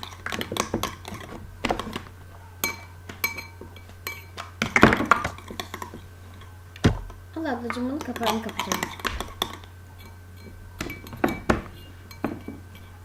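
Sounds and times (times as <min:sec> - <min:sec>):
utensil clinking against a bowl: 0:00.0 - 0:13.0.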